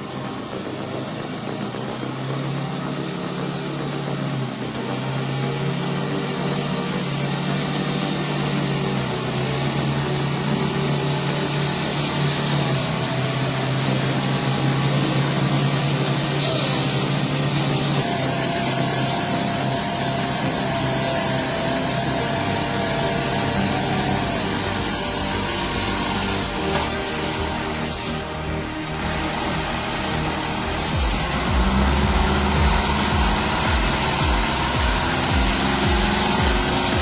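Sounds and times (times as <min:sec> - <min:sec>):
machine engine running: 0:00.0 - 0:37.0
hiss: 0:00.1 - 0:37.0.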